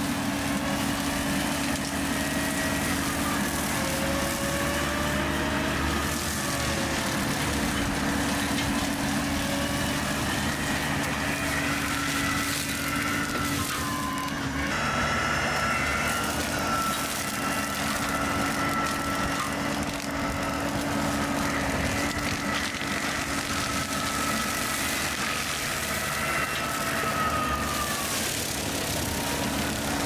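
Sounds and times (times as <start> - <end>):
brush cutter head whining: 0.0 - 30.0
excavator diesel engine: 0.0 - 30.0.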